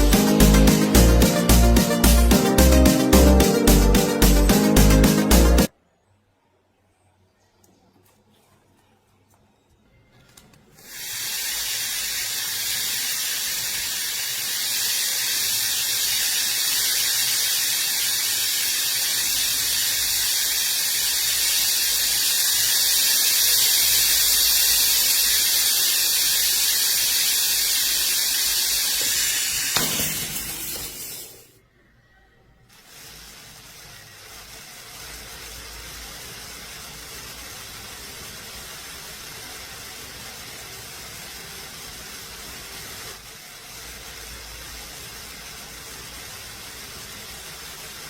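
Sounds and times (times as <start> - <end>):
loud steady hiss: 0.0 - 5.7, 10.8 - 31.6, 32.7 - 48.0.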